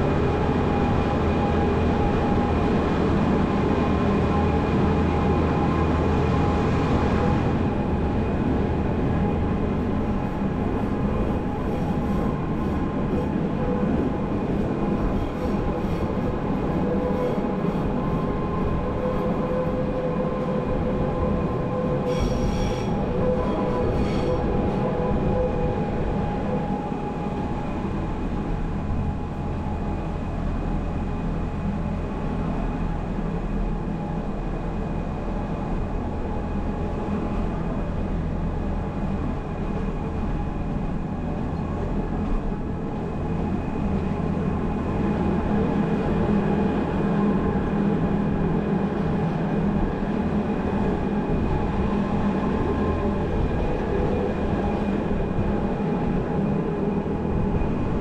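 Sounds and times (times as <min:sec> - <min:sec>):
constant humming tones: 0:00.0 - 0:58.0
train running gear rumble: 0:00.0 - 0:58.0.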